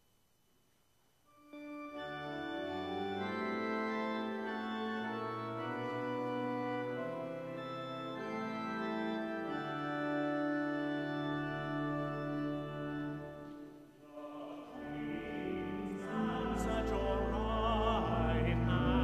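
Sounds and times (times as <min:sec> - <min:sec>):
church organ chords: 0:01.3 - 0:19.0.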